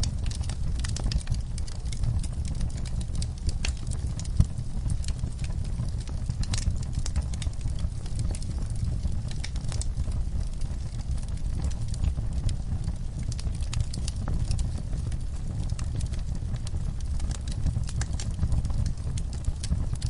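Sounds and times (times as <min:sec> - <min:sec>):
fire crackling and snapping: 0:00.0 - 0:20.0
fire flames rumbling: 0:00.0 - 0:20.0.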